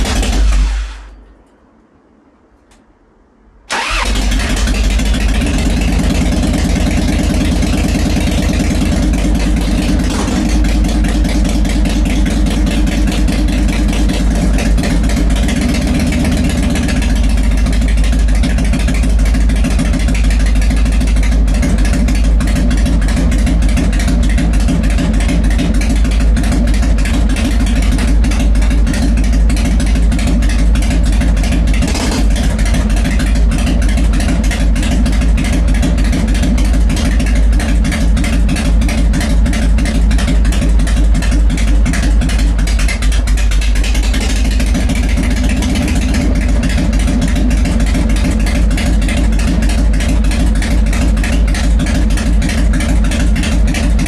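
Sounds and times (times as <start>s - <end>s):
motorcycle engine starting and running: 0.0s - 1.5s, 3.7s - 54.0s.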